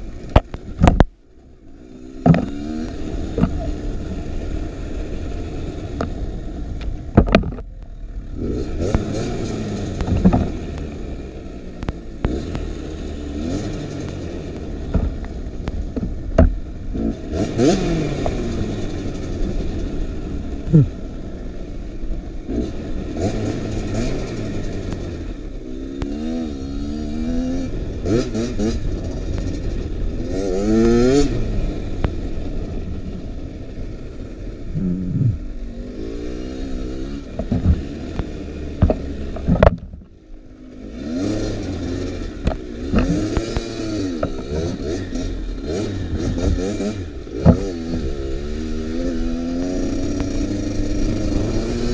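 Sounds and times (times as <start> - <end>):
dirt bike engine revving: 1.7 - 6.7, 8.0 - 21.5, 22.3 - 51.9.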